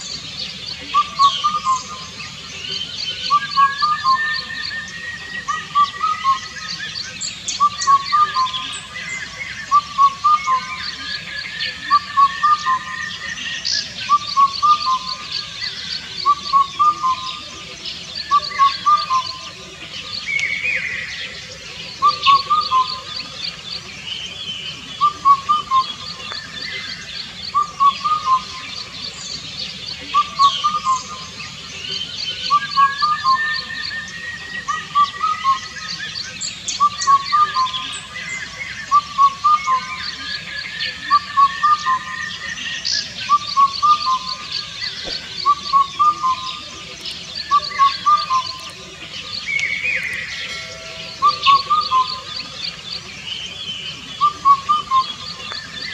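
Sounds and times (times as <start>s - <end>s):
birds chirping and trilling: 0.0s - 55.9s
cuckoo calling: 0.0s - 55.9s.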